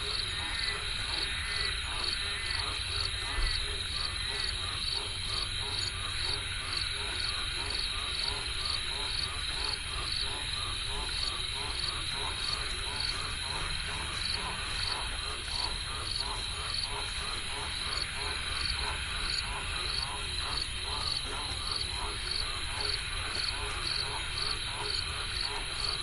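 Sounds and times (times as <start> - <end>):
frogs croaking: 0.0 - 26.0.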